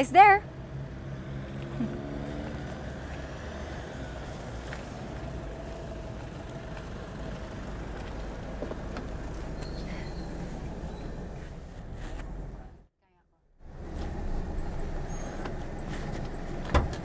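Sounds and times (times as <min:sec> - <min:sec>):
low engine and traffic rumble: 0:00.0 - 0:17.0.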